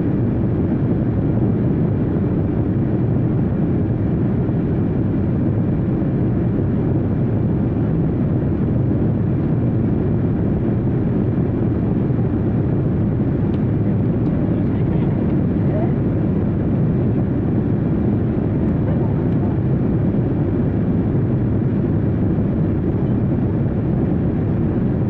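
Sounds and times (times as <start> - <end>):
jet airliner cabin roar: 0.0 - 25.0.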